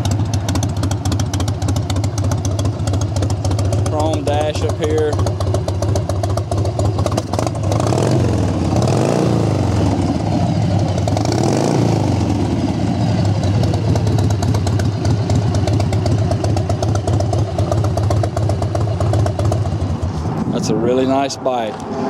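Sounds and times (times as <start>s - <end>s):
motorcycle engine idling: 0.0s - 20.4s.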